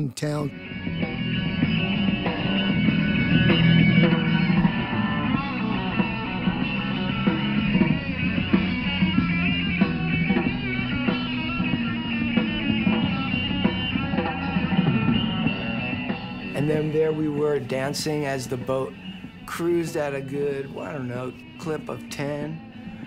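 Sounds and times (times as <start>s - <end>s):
bass guitar: 0.5s - 23.0s
drums: 0.5s - 23.0s
electric guitar: 0.5s - 23.0s.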